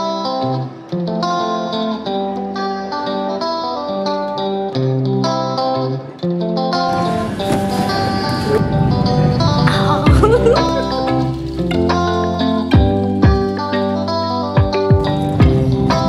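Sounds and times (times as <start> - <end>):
plucked background music: 0.0 - 16.0.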